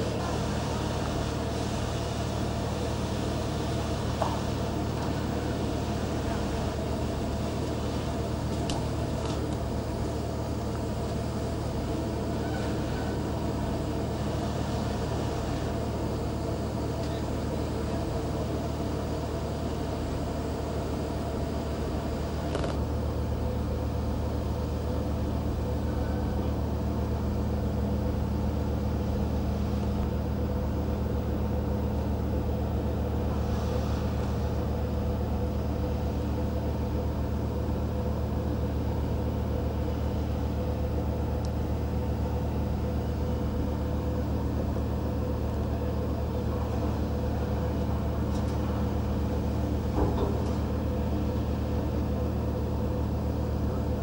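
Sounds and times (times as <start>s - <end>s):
ship engine drone: 0.0s - 54.0s.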